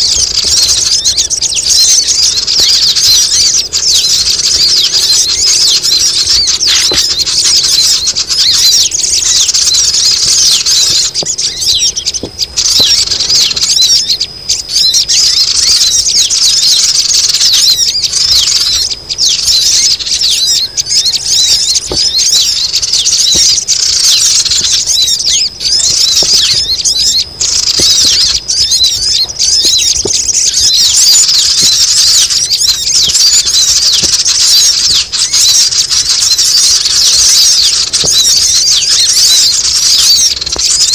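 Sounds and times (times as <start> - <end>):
birds twittering and chirping: 0.0 - 40.9.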